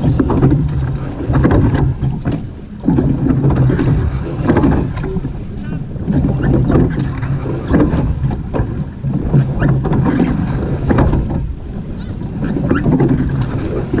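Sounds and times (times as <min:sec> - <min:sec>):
oars knocking in rowlocks: 0:00.0 - 0:14.0
oars splashing: 0:00.0 - 0:14.0
wind buffeting microphone: 0:00.0 - 0:14.0.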